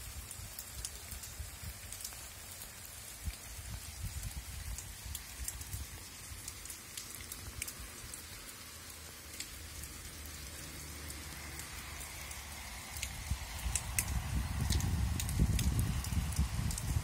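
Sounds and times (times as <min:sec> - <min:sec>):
rain on leaves and soil: 0:00.0 - 0:17.0.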